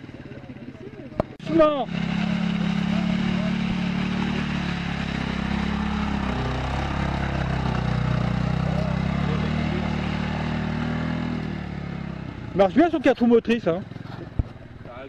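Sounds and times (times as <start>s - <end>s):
quad bike engine under load: 0.0s - 15.0s.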